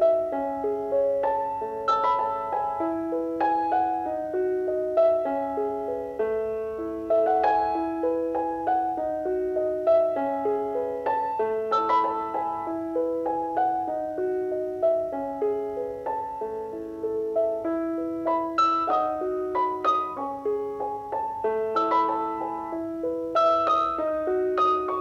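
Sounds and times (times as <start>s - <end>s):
slow gentle piano music: 0.0s - 25.0s.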